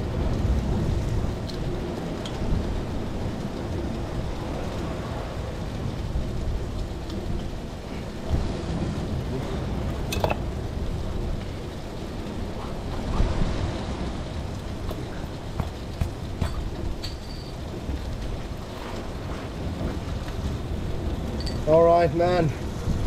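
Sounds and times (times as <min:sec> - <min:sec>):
sea: 0:00.0 - 0:23.0
wind: 0:00.0 - 0:23.0.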